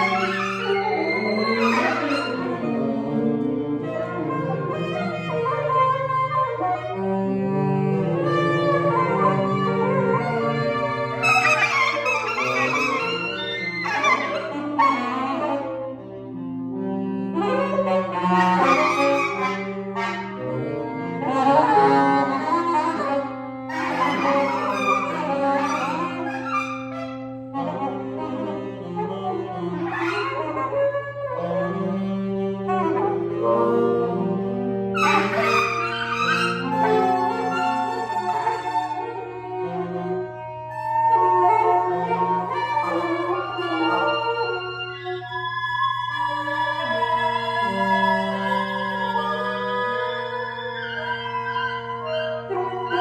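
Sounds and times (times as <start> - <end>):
free jazz woodwind ensemble: 0.0 - 53.0.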